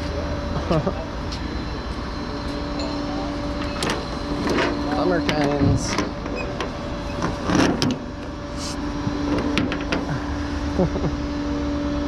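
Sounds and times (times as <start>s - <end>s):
constant whine: 0.0s - 12.0s
truck engine idling: 0.0s - 12.0s.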